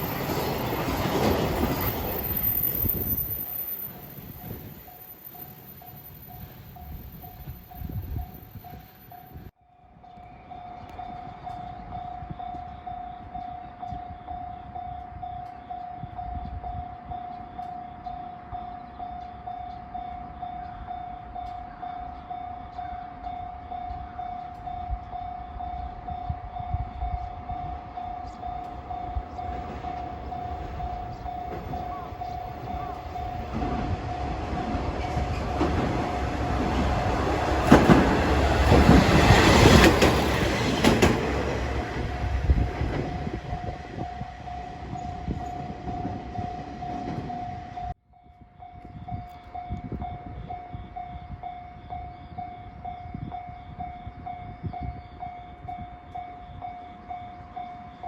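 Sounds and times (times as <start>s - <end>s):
diesel railcar rumble: 0.0s - 9.5s, 10.3s - 48.0s.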